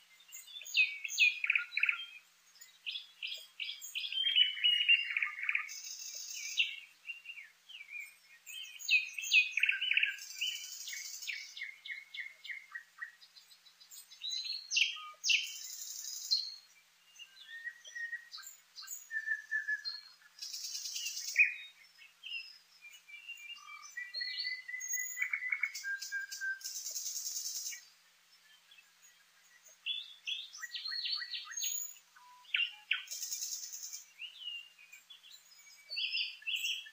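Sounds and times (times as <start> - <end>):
songbird singing: 0.0 - 36.9.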